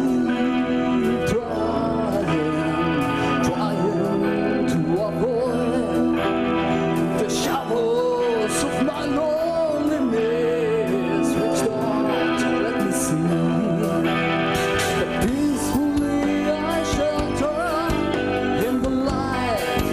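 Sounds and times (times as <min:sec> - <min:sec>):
rock band playing live: 0:00.0 - 0:19.9.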